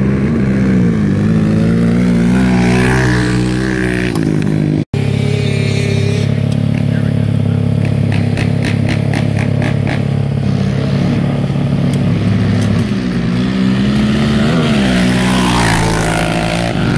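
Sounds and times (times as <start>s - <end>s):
atv engines droning: 0.0s - 16.9s
quad engine revving past: 0.0s - 16.9s.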